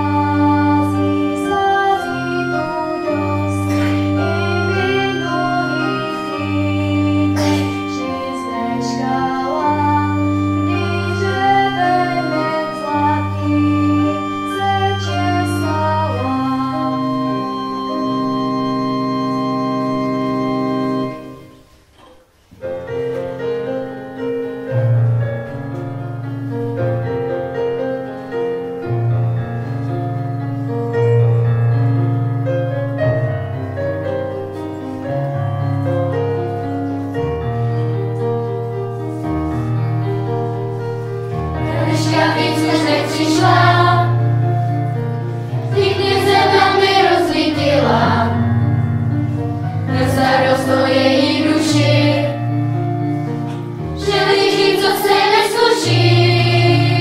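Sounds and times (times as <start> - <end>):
electronic keyboard with organ sound: 0.0 - 21.9, 22.6 - 57.0.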